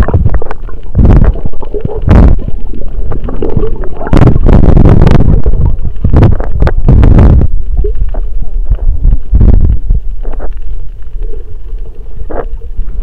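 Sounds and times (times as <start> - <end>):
muffled underwater sloshing: 0.0 - 13.0.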